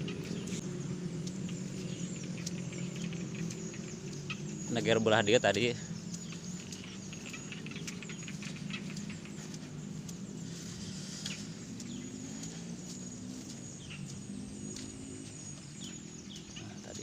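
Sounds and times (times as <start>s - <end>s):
high insect tone: 0.0s - 17.0s
light clicks and rustles: 0.0s - 17.0s
low steady drone: 0.0s - 17.0s.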